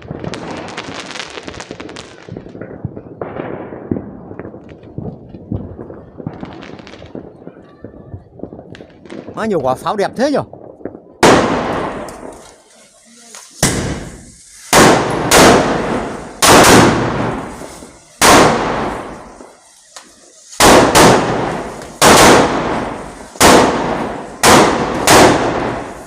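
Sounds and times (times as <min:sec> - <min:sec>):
fireworks bursting with echoes: 0:00.0 - 0:26.0.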